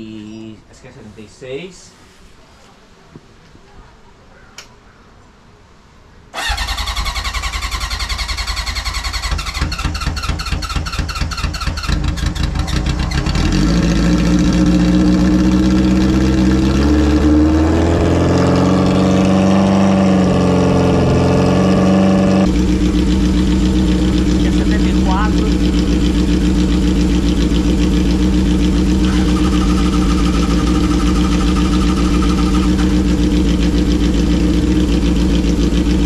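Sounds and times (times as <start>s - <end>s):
motorcycle engine starting and running: 6.3s - 36.0s.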